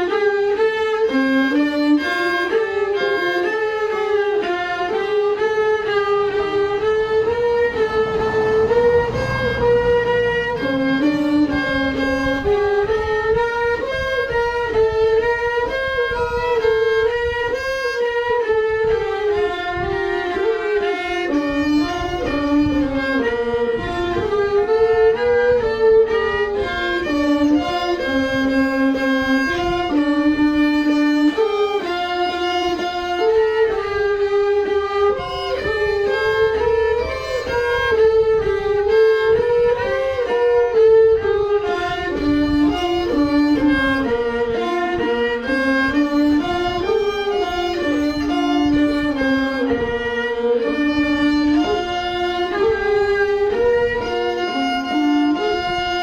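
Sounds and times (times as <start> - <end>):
bowed string instrument melody: 0.0 - 56.0.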